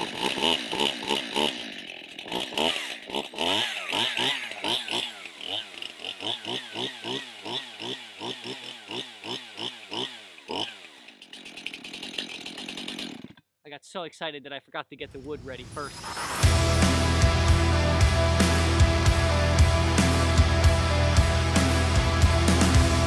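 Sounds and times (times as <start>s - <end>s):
chainsaw revving: 0.0s - 13.4s, 15.9s - 23.0s.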